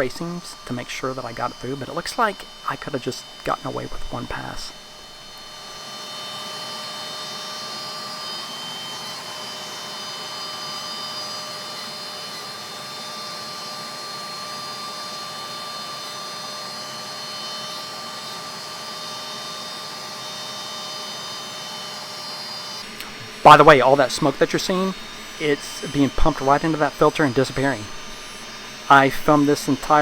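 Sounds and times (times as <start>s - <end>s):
laser cutter fans whirring: 0.0s - 30.0s.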